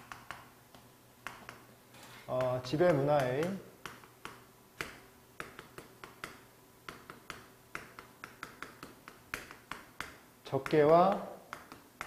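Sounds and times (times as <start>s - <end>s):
chalk tapping on chalkboard: 0.0s - 12.0s.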